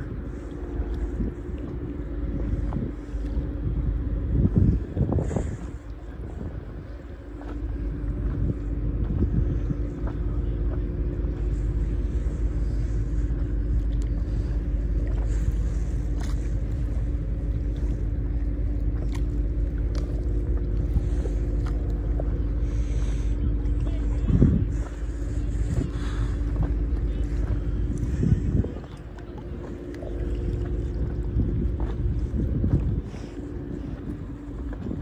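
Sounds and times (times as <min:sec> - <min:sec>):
motorboat engine running: 0:00.0 - 0:35.0
water splashes: 0:00.0 - 0:35.0.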